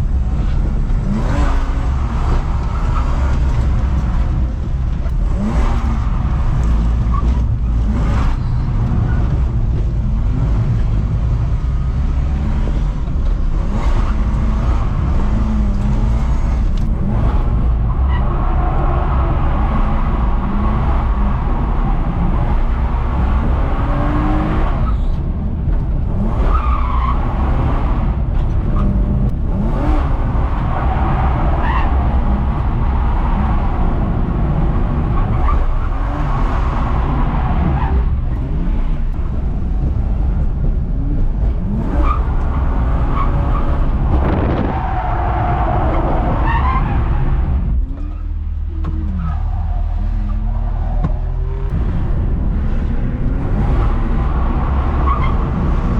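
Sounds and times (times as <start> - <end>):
car engine revving: 0.0 - 55.9
tyres skidding: 0.0 - 55.9.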